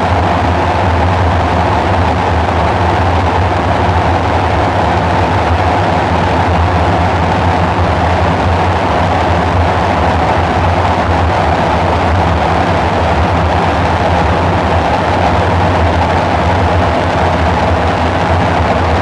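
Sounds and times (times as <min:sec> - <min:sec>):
dark synthesizer drone: 0:00.0 - 0:19.0.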